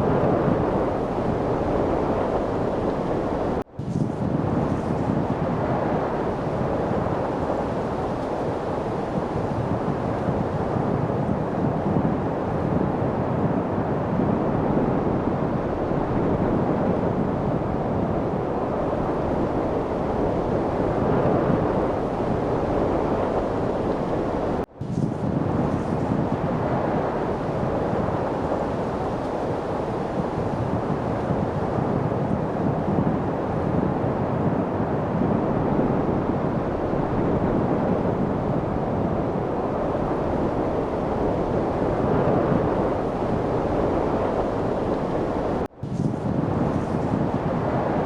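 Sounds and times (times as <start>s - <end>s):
light wind rushing: 0.0s - 48.0s.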